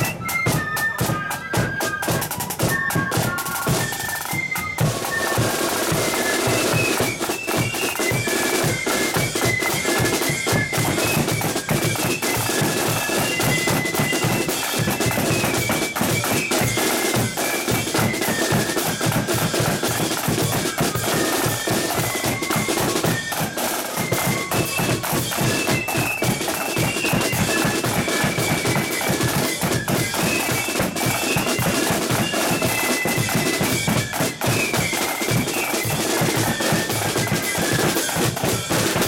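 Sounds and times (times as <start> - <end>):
flutes playing a march: 0.0 - 39.0
snare drums rattling: 0.0 - 39.0.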